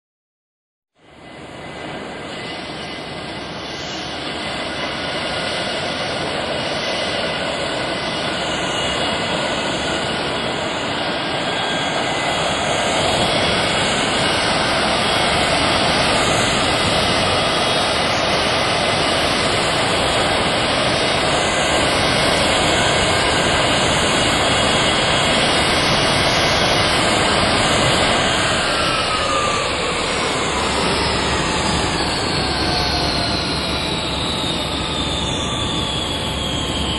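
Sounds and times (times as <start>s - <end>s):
jet engine rushing: 1.1s - 36.9s.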